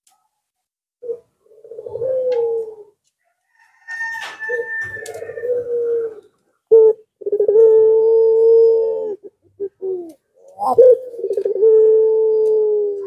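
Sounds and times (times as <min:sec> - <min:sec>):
dove cooing: 0:01.0 - 0:03.0, 0:03.7 - 0:13.0.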